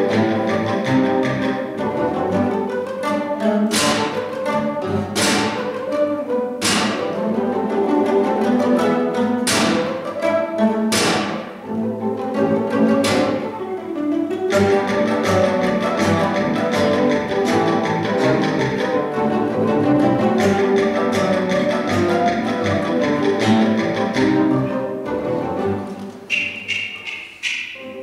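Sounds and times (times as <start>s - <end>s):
many nylon-string guitars playing: 0.0s - 28.0s.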